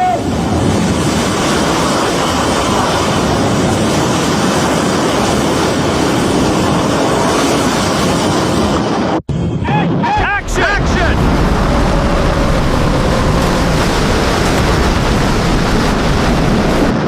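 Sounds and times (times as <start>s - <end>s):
tornado wind roaring: 0.0s - 17.0s.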